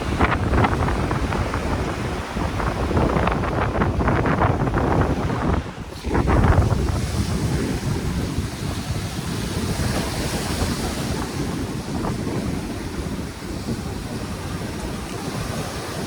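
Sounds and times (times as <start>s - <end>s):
ocean surf washing: 0.0s - 16.0s
wind buffeting microphone: 0.0s - 16.0s.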